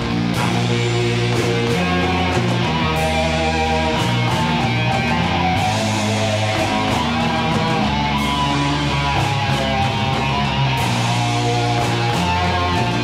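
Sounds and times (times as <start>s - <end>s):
live rock band: 0.0s - 13.0s
strummed electric guitar: 0.0s - 13.0s.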